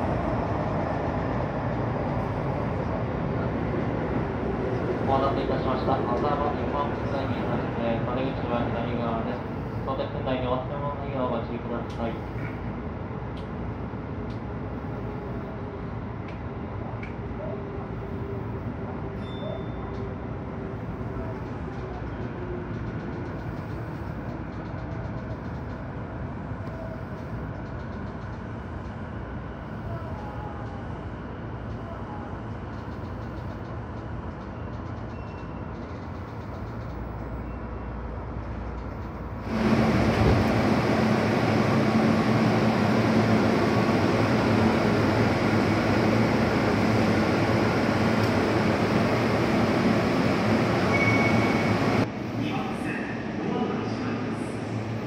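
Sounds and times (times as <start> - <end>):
electric train rumble: 0.0 - 19.2, 20.0 - 55.0.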